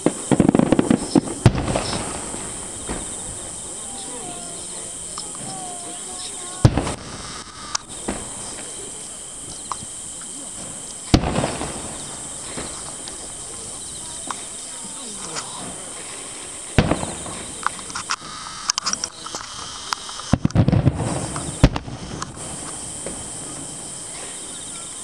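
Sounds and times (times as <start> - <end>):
firework cracks and pops: 0.0 - 25.0
firework shells booming: 0.0 - 25.0.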